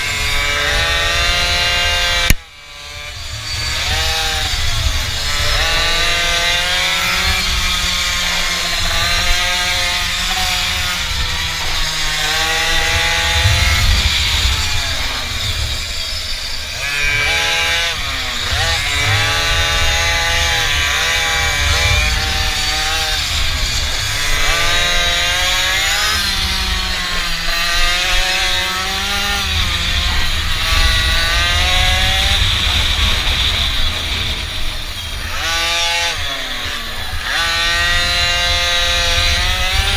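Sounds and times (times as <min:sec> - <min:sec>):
small engine revving: 0:00.0 - 0:39.9
wind rumble on microphone: 0:00.0 - 0:39.9.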